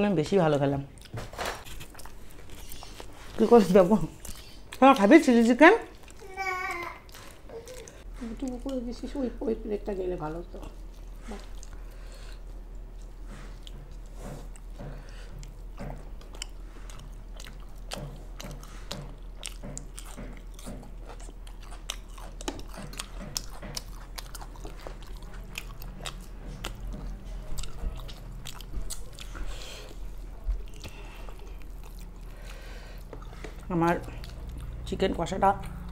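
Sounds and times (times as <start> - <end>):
wet chewing and biting: 1.0 - 5.1, 10.4 - 35.9.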